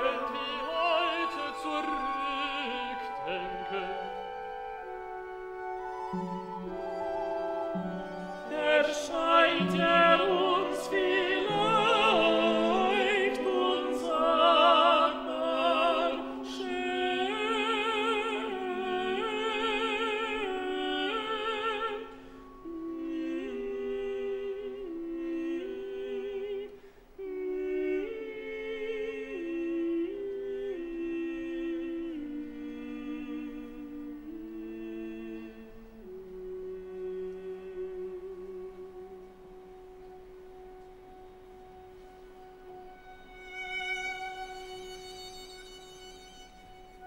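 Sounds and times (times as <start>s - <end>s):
operatic singing with vibrato: 0.0s - 47.0s.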